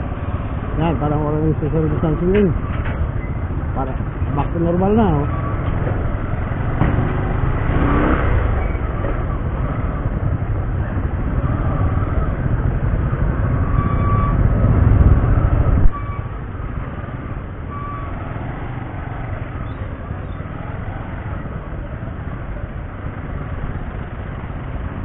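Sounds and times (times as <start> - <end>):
motorcycle road noise: 0.0 - 25.0
traffic rumble: 0.0 - 25.0.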